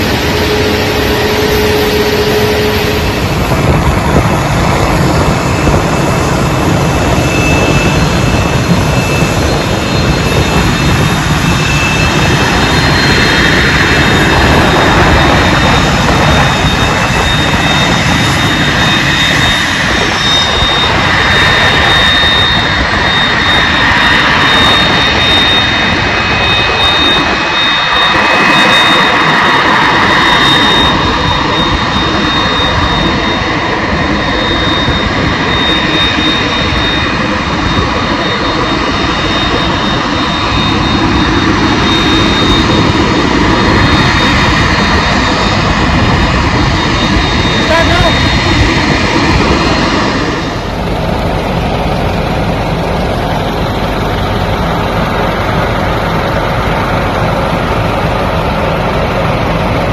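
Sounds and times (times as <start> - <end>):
jet engine rushing noise: 0.0 - 59.9
jet engine whine: 0.0 - 59.9.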